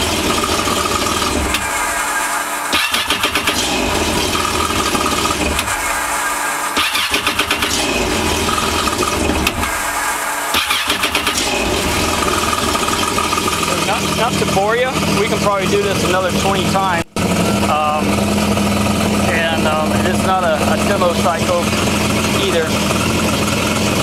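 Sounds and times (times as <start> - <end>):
jet ski engine starting: 0.0 - 24.0.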